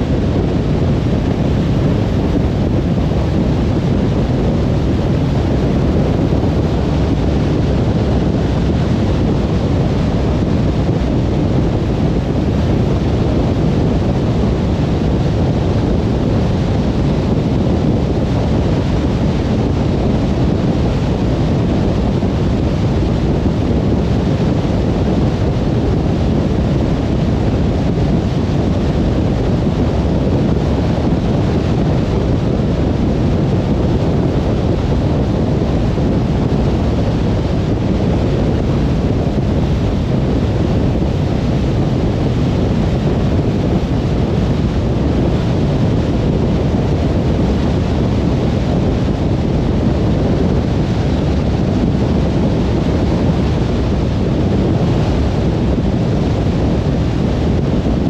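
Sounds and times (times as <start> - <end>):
tyre and wind noise: 0.0 - 58.0.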